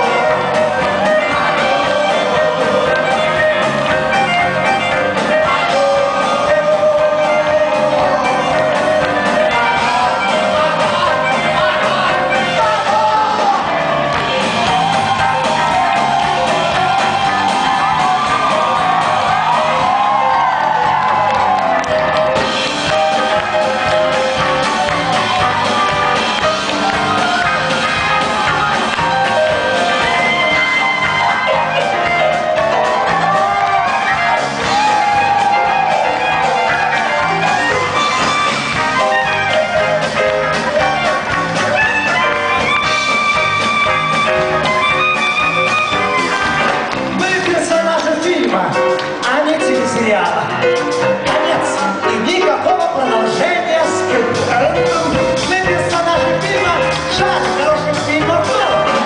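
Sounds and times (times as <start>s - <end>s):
electric guitar: 0.0s - 47.6s
drum kit beat: 0.0s - 59.0s
live rock band playing: 0.0s - 59.0s.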